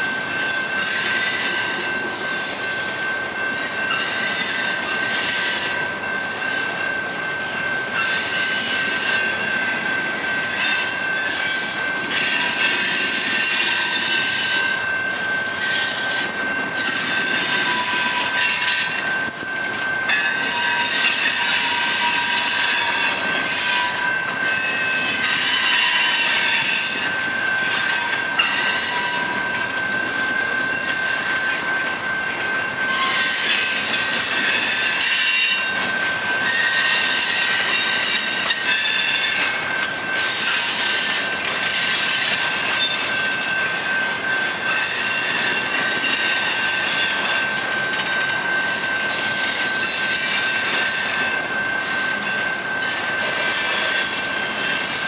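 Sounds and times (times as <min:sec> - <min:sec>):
freight train wheels rumbling: 0:00.0 - 0:55.0
lower squeal: 0:00.0 - 0:55.0
high-pitched wheel squeal: 0:00.4 - 0:06.6, 0:07.7 - 0:32.2, 0:32.8 - 0:55.0.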